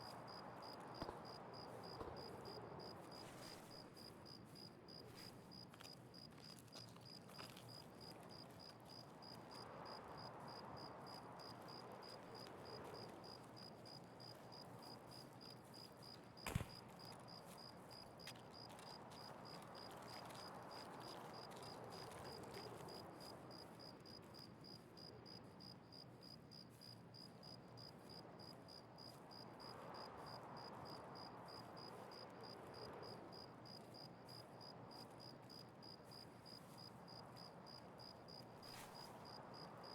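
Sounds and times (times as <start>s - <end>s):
cricket chirping: 0.0s - 39.9s
faint background noise: 0.0s - 39.9s.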